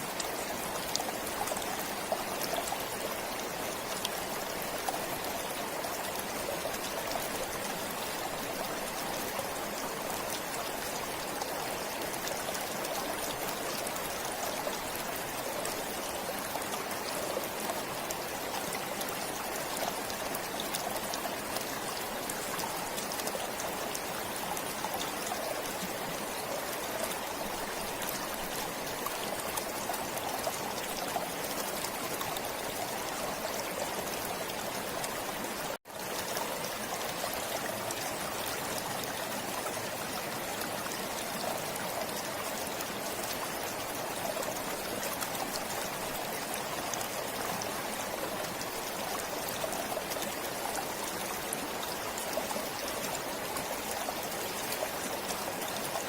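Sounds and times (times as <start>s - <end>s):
stream flowing and trickling: 0.0s - 56.0s.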